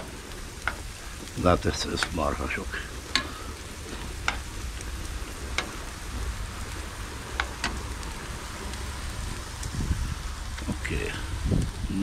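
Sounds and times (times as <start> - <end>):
food sizzling on a grill: 0.0 - 12.0
low rumble: 0.0 - 12.0.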